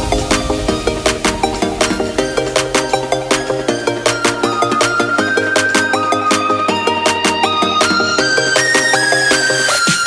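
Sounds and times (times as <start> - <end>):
electronic music with quick beat: 0.0 - 10.0.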